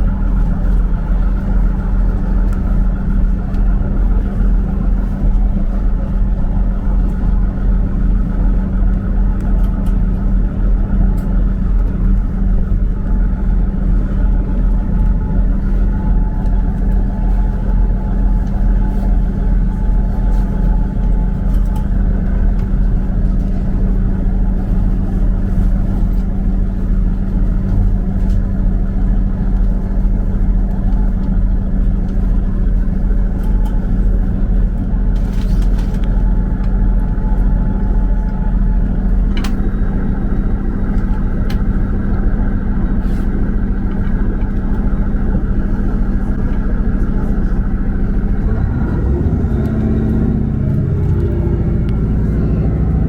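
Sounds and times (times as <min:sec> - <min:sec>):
train rumbling from inside carriage: 0:00.0 - 0:53.0.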